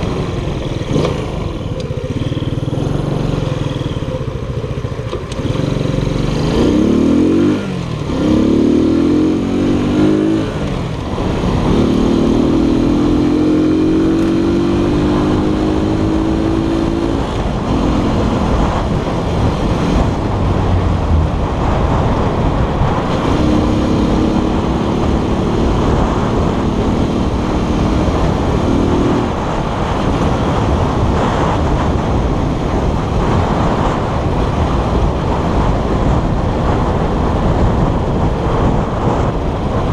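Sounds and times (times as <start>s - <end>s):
scooter engine accelerating: 0.0s - 39.9s
wind rushing over microphone: 0.0s - 39.9s.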